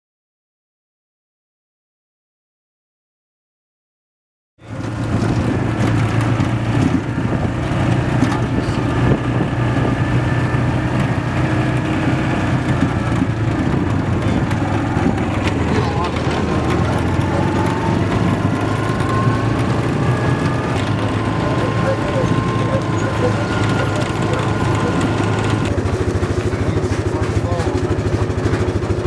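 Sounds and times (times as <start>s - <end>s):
vehicle engine drone: 4.6s - 29.0s
vehicle running noise: 4.6s - 29.0s.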